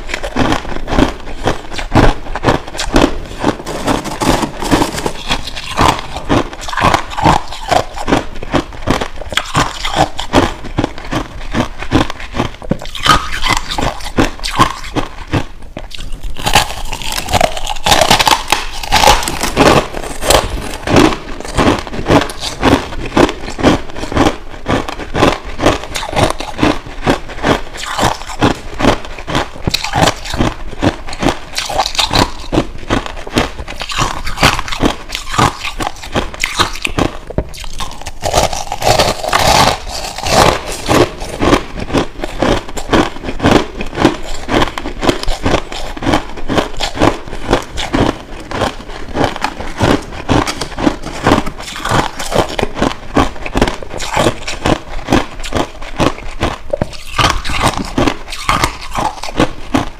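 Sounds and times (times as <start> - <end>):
crushed ice being chewed: 0.0 - 59.9.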